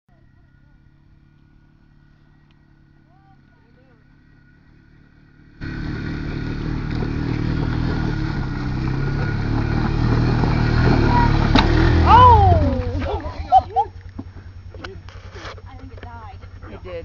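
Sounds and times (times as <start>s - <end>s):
atv engine running hard: 0.1s - 17.0s.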